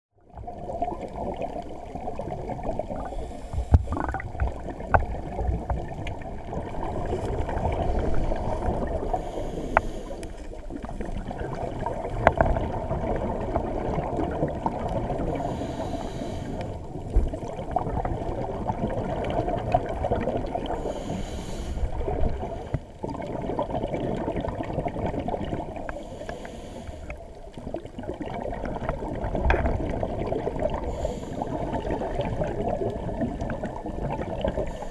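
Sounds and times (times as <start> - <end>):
diver regulator breathing bubbles: 0.5 - 34.9.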